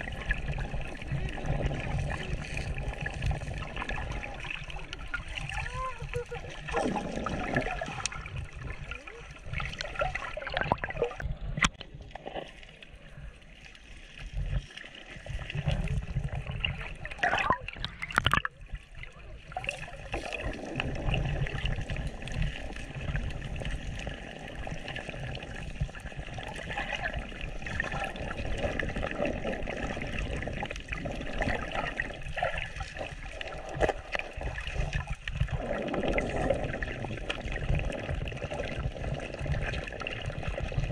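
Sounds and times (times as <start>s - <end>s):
water trickling and sloshing: 0.0s - 40.9s.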